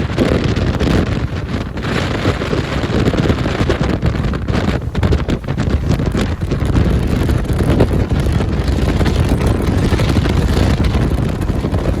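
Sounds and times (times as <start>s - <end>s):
motorboat rumbling at speed: 0.0s - 12.0s
wind buffeting microphone: 0.0s - 12.0s.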